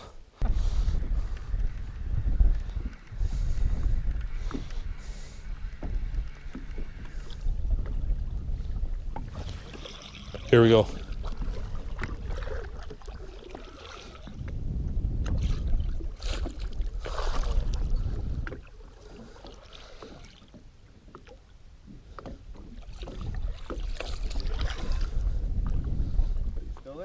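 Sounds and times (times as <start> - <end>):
wind gusting over microphone: 0.0 - 19.4, 22.0 - 27.0
water lapping at boat hull: 0.0 - 27.0.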